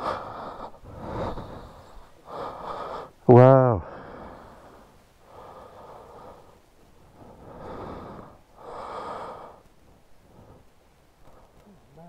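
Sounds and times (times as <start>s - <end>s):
person breathing close: 0.0s - 3.2s, 3.8s - 11.6s.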